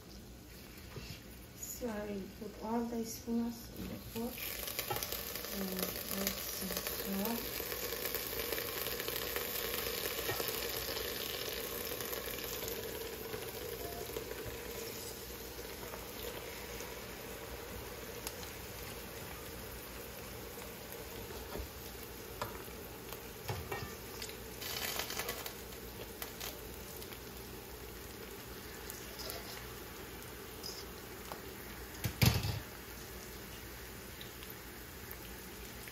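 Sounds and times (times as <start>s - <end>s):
food sizzling in oil: 0.0s - 35.9s.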